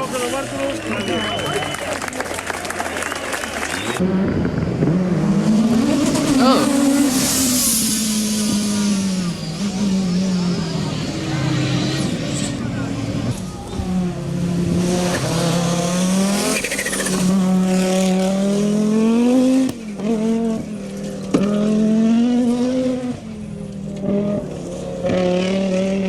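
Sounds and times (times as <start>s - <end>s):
rally car engine revving: 4.0s - 26.0s.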